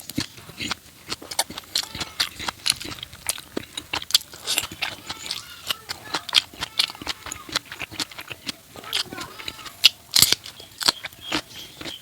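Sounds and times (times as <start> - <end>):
close-up wet chewing: 0.0 - 12.0.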